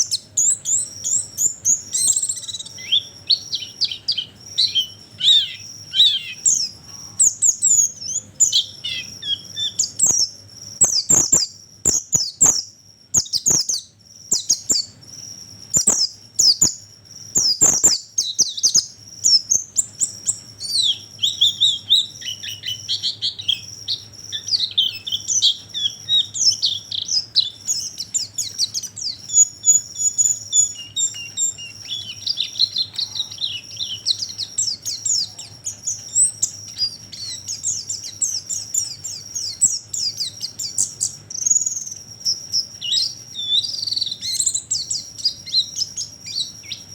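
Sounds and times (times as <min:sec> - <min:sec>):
birds chirping and trilling: 0:00.0 - 0:46.9.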